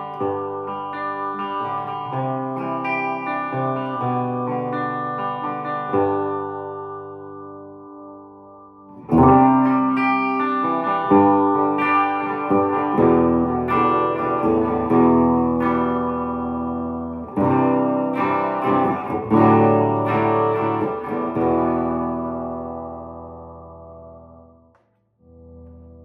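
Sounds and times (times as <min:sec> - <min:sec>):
electric guitar strumming chords: 0:00.0 - 0:26.0.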